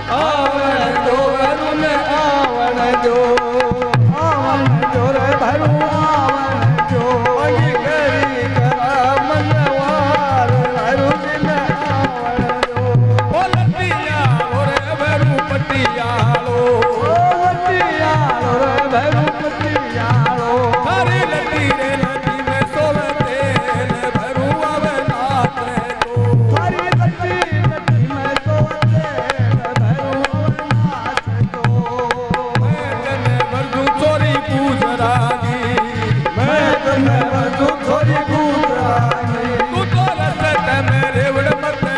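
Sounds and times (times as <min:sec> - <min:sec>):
harmonium: 0:00.0 - 0:41.9
man singing: 0:00.0 - 0:41.9.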